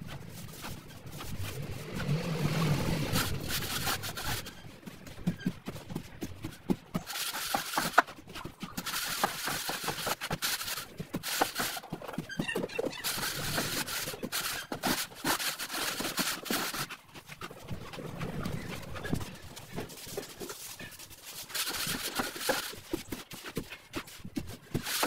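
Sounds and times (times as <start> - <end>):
screed board scraping floor: 0.0 - 25.0.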